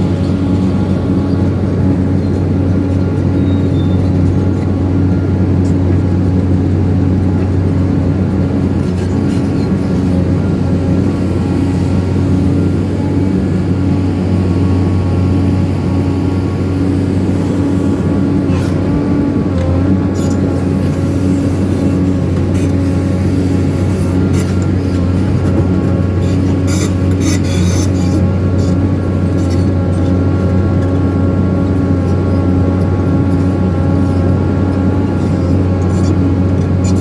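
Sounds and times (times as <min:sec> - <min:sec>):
excavator diesel engine droning: 0:00.0 - 0:37.0.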